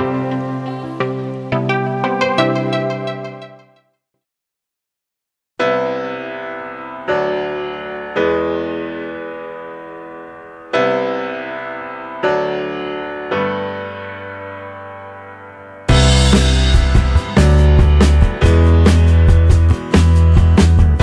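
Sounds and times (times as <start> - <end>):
slow piano chords: 0.0 - 3.3, 5.6 - 21.0.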